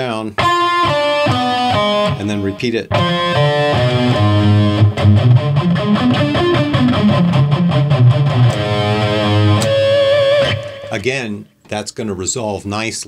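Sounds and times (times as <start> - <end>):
electric guitar playing: 0.4 - 11.2.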